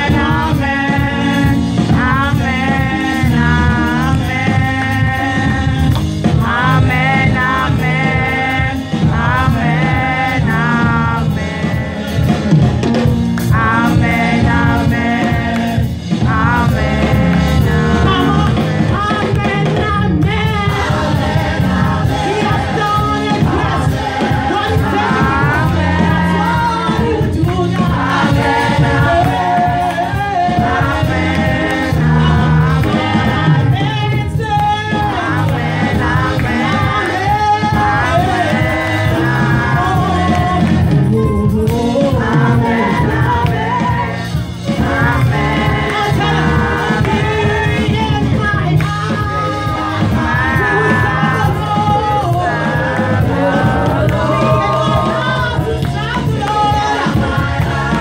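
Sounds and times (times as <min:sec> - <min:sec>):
keyboard: 0:00.0 - 0:58.0
lead singer and choir singing: 0:00.0 - 0:58.0
steady drum beat: 0:00.0 - 0:58.0.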